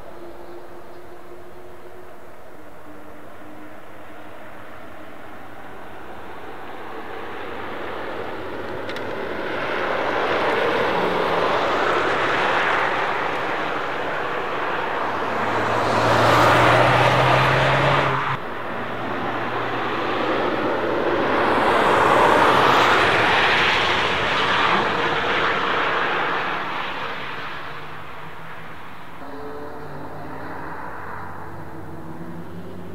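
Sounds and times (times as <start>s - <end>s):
car tyre and wind rush: 0.0s - 29.2s.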